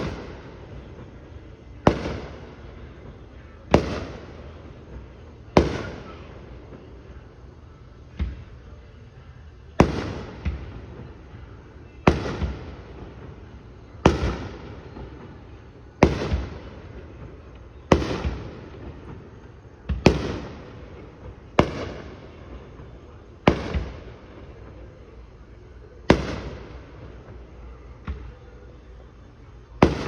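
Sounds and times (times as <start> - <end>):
fireworks bangs: 0.0 - 9.1, 9.7 - 28.4, 29.2 - 30.0.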